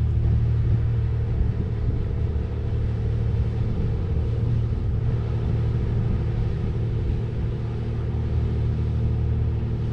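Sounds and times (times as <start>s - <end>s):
boat engine rumbling: 0.0s - 9.9s.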